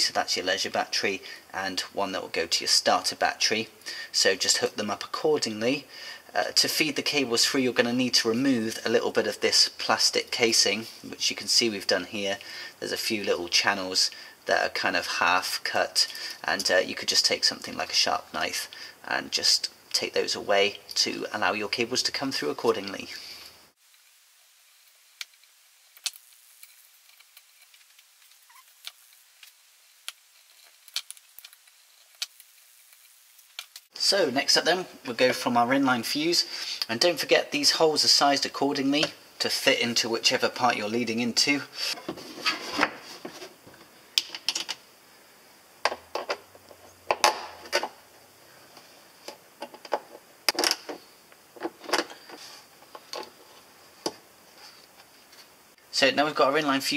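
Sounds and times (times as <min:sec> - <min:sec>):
faint hiss: 0:00.0 - 0:56.9.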